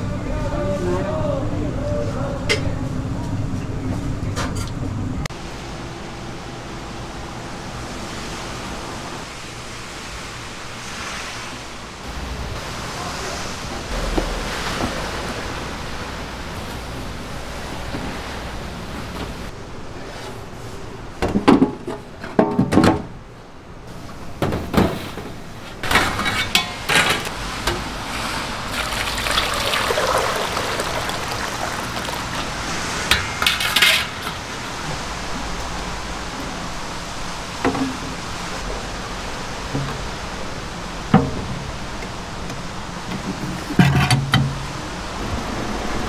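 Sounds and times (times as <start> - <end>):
steady background hiss: 5.0 - 46.0.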